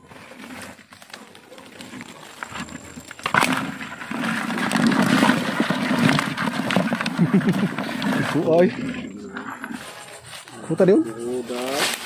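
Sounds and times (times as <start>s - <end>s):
close handling noise: 0.0s - 12.0s.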